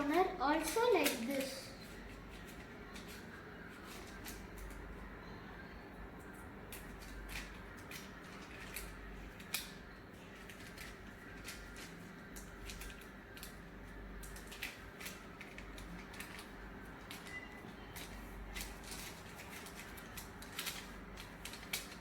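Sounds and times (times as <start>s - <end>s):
paper crinkling and ticking: 0.0s - 5.0s, 6.2s - 22.0s.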